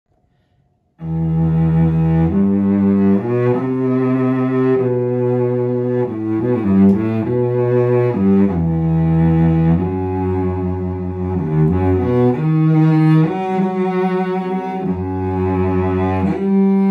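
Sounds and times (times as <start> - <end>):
bowed cello melody: 1.0 - 16.9.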